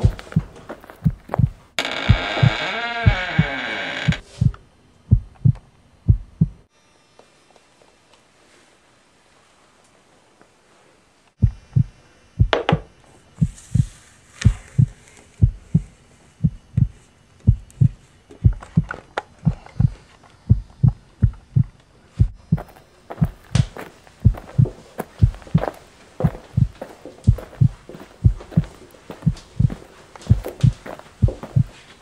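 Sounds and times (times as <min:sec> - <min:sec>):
heartbeat double thumps: 0:00.0 - 0:03.5, 0:04.1 - 0:06.7, 0:11.4 - 0:31.8.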